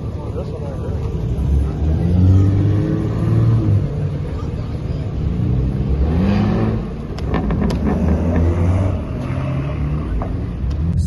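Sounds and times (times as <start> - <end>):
car engine running low revs: 0.0 - 11.0.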